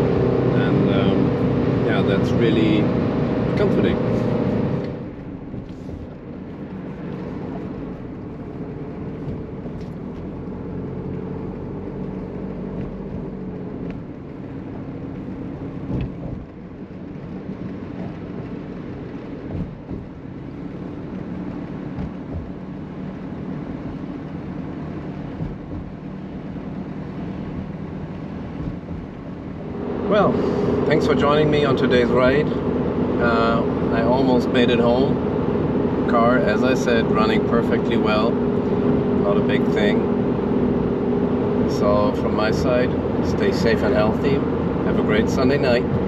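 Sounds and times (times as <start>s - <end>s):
car engine drone: 0.0s - 46.0s.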